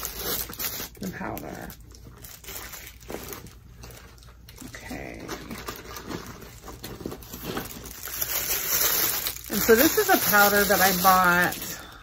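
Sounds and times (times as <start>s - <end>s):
bag and plastic wrapping rustling: 0.0s - 12.0s.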